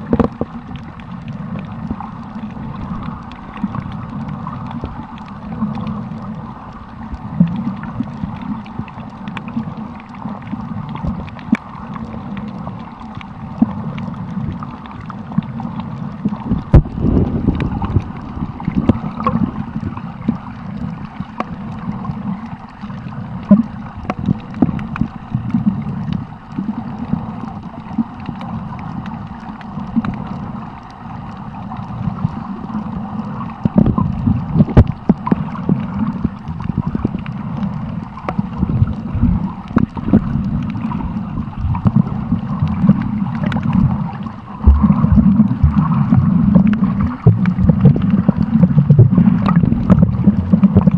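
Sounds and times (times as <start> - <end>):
water sloshing underwater: 0.0 - 50.9.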